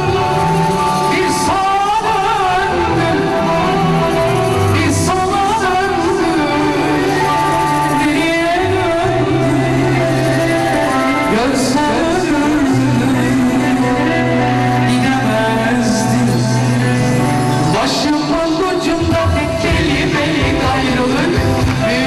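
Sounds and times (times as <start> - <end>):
band playing: 0.0 - 22.0
bass line: 0.0 - 22.0.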